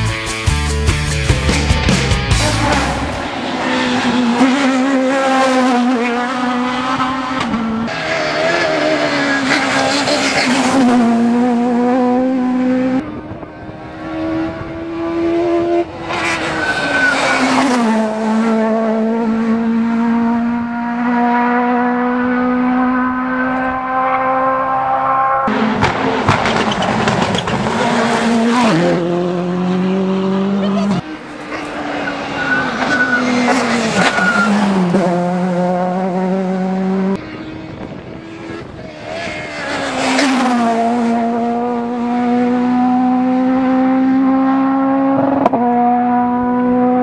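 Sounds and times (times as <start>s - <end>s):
rally car engines revving: 0.1s - 47.0s.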